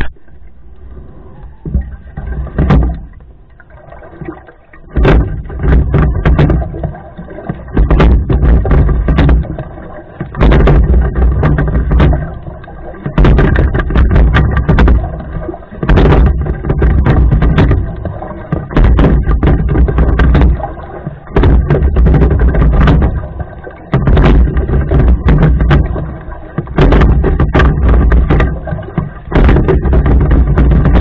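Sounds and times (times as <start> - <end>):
rowing strokes with rumbling surge: 0.0 - 31.0
sharp knocks and clicks: 1.7 - 3.6, 4.2 - 31.0.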